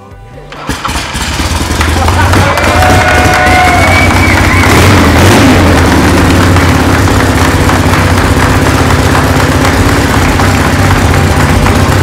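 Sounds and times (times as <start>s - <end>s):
motorcycle engine idling: 0.6s - 12.0s.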